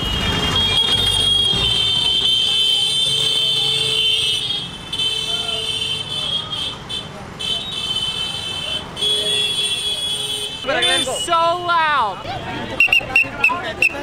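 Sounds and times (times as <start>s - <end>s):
high-pitched vehicle horns honking: 0.0s - 11.8s
hum of engines: 0.0s - 14.0s.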